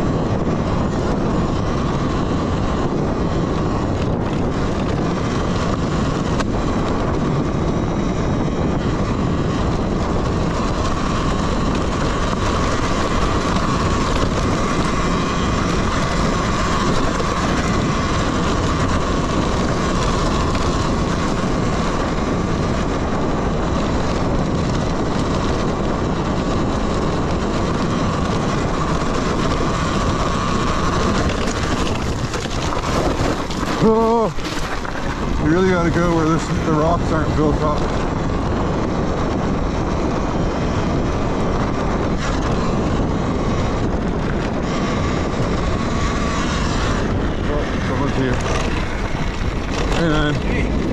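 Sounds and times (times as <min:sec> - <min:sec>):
electric motor whine: 0:00.0 - 0:50.9
tyres rumbling and rattling: 0:00.0 - 0:50.9.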